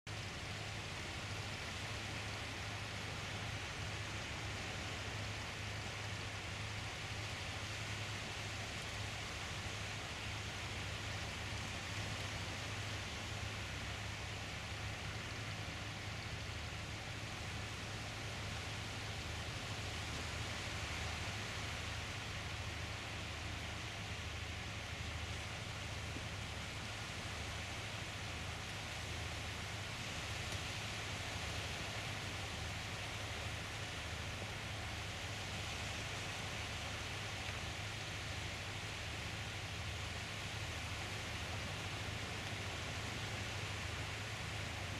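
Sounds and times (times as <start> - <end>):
beach ambience hiss: 0.1 - 44.9.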